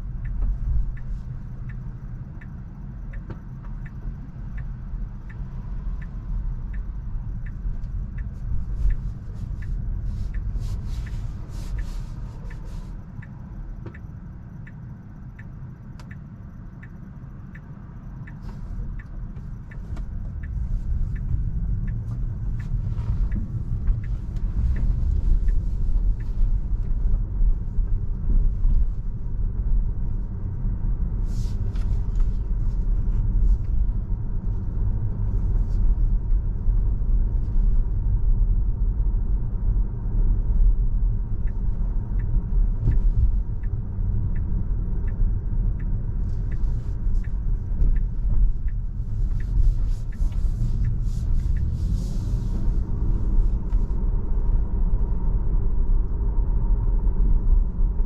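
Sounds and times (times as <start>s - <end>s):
light regular ticking: 0.0s - 55.5s
road and tyre noise in car: 0.0s - 58.0s.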